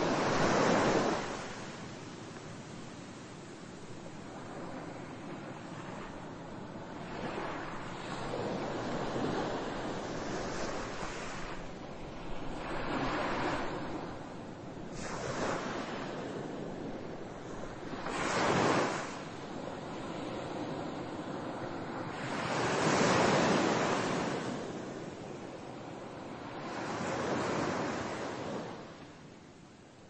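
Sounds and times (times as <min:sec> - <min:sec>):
ocean waves washing in: 0:00.0 - 0:29.3.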